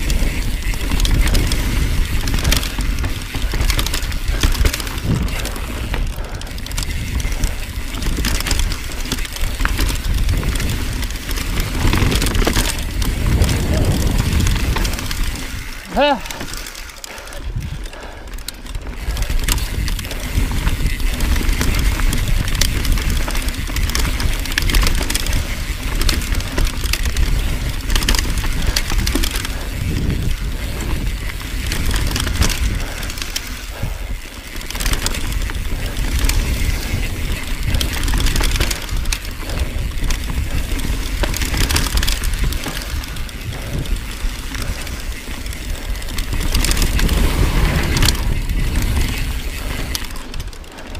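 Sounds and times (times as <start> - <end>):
bike rattling and knocking: 0.0 - 50.9
bike tyres rumbling over dirt: 0.0 - 50.9.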